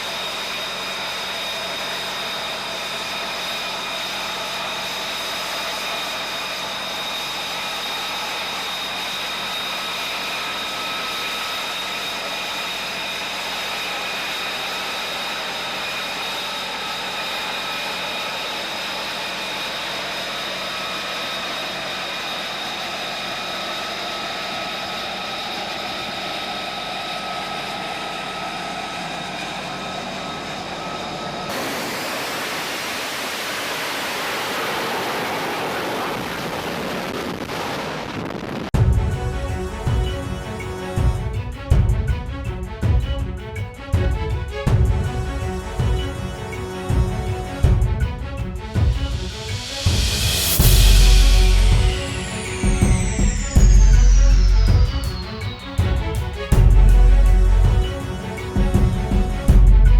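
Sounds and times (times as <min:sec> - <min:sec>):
jet engine roar: 0:00.0 - 0:41.7, 0:48.8 - 0:59.6
jet engine turbine whine: 0:00.0 - 0:59.9.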